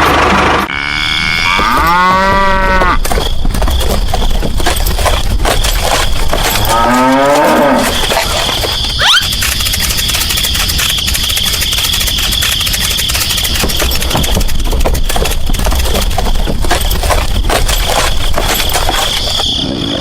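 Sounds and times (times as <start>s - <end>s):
small motor whining and rattling: 0.0s - 19.9s.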